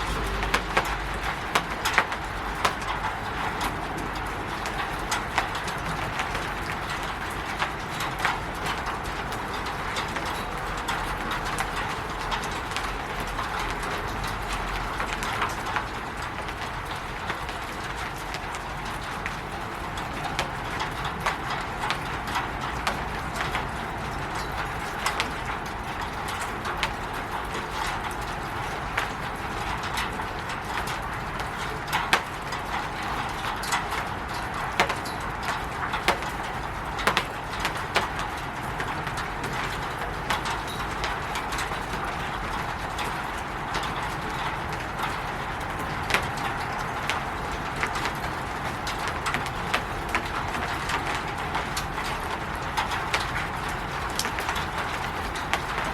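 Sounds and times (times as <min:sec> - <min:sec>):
rain pattering on a roof: 0:00.0 - 0:55.9.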